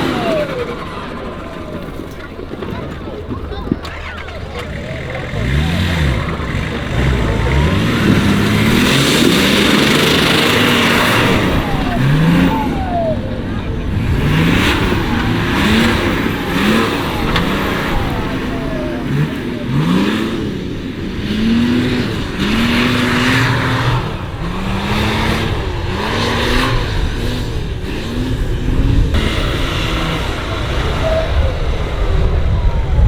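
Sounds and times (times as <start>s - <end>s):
engine revving hard: 0.0s - 33.0s.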